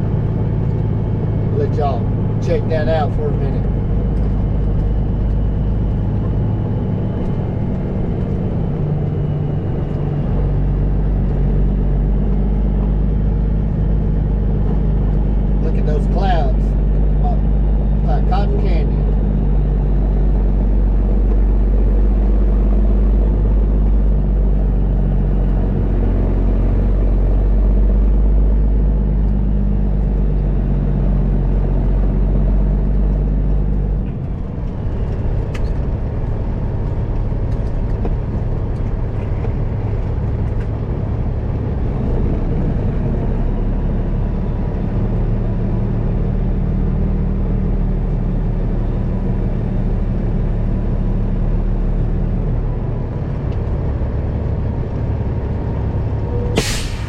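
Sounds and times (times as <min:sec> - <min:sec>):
diesel engine droning: 0:00.0 - 0:57.0
road noise: 0:00.0 - 0:57.0.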